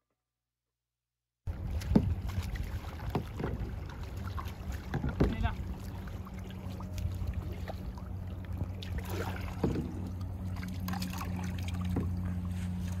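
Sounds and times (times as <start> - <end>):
kayak paddles dipping: 1.5 - 13.0
steady low hum: 1.5 - 13.0
water trickling and splashing: 1.5 - 13.0.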